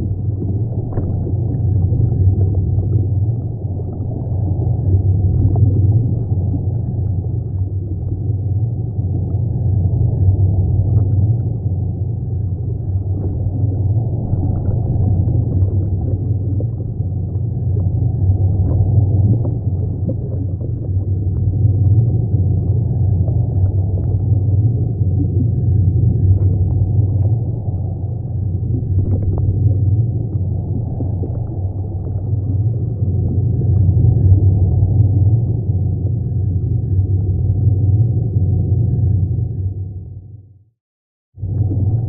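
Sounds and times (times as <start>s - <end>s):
aquarium water pump rumble: 0.0s - 40.7s, 41.4s - 42.0s.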